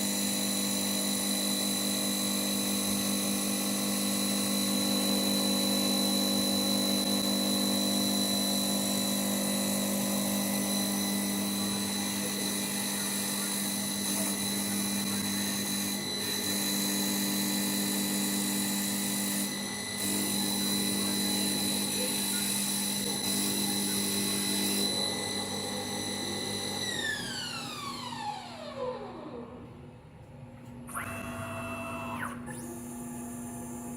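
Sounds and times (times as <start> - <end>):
lathe motor whine: 0.0 - 29.9, 30.9 - 33.9.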